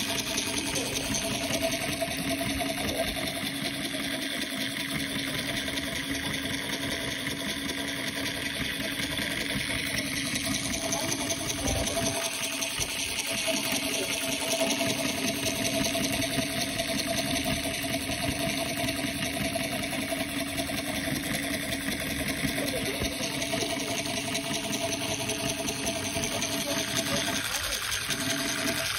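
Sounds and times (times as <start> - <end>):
small motor whirring: 0.0 - 28.9.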